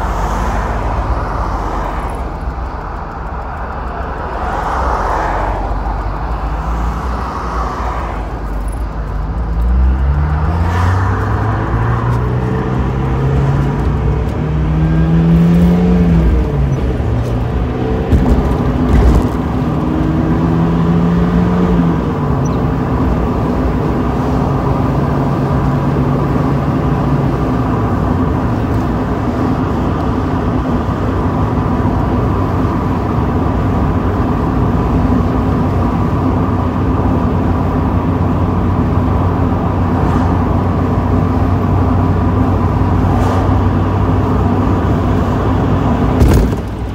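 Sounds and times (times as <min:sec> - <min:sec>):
car engine accelerating through gears: 0:00.0 - 0:46.6
road noise: 0:00.0 - 0:46.9.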